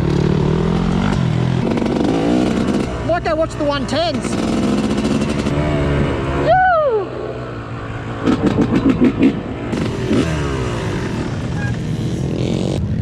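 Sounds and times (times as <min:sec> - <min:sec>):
dirt bike engine revving: 0:00.0 - 0:13.0
drone of dirt bikes: 0:00.0 - 0:13.0.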